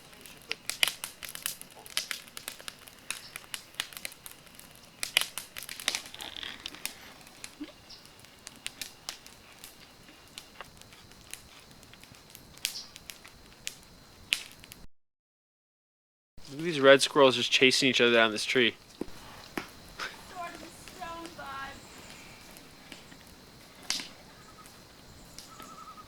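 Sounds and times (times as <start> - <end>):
campfire crackling and popping: 0.0 - 14.9, 16.4 - 26.0.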